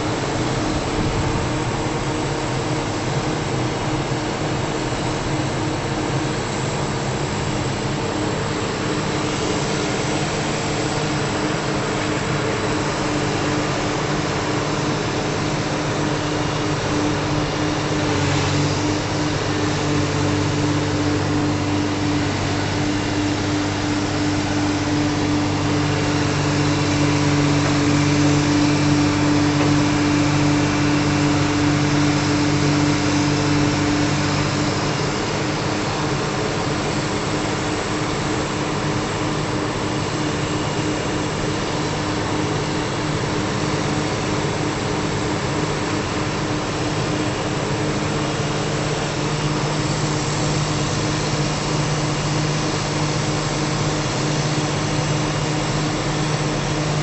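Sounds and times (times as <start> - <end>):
engine running with low hum: 0.0 - 57.0.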